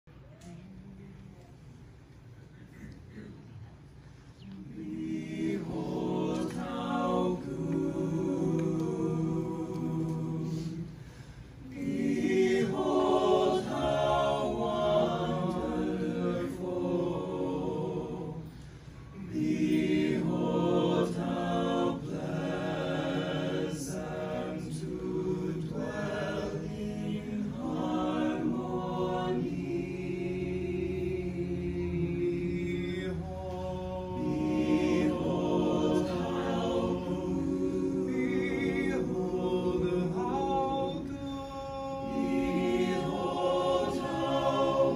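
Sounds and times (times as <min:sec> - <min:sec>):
mixed choir singing a cappella: 0:04.5 - 0:44.9.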